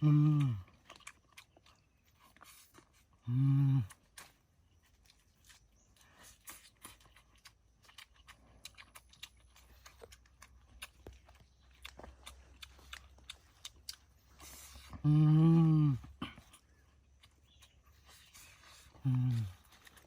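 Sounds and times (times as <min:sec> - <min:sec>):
person chewing and crunching food: 0:00.0 - 0:20.0.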